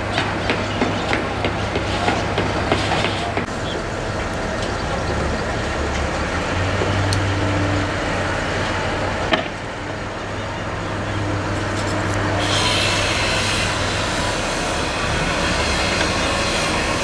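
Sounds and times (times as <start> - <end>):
heavy machinery running: 0.0 - 17.0.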